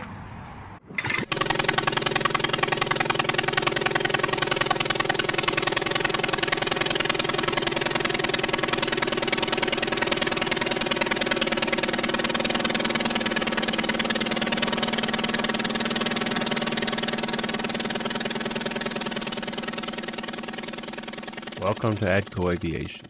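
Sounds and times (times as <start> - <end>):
light aircraft engine running: 1.0 - 23.0.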